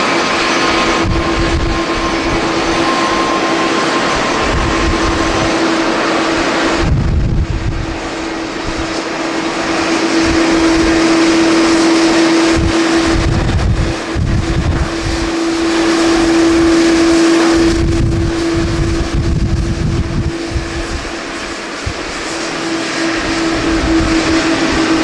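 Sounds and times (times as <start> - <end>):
jet engine roar: 0.0 - 25.0
wind buffeting microphone: 0.0 - 25.0.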